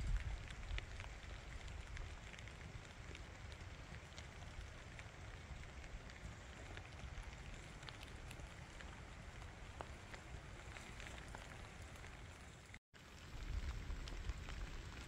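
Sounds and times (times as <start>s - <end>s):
rain hissing: 0.0s - 15.0s
sharp raindrop ticks: 0.0s - 15.0s.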